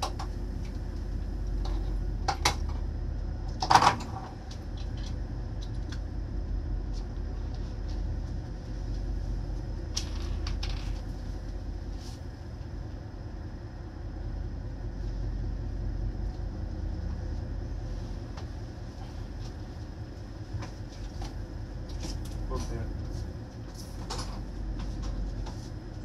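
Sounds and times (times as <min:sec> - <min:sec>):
ship low rumble: 0:00.0 - 0:26.0.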